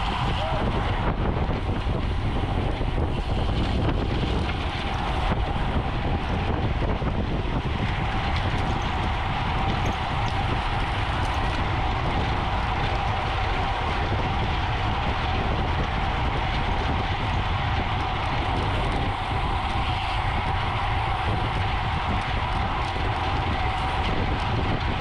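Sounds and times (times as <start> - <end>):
bicycle road noise: 0.0 - 25.0
wind rush: 0.0 - 25.0.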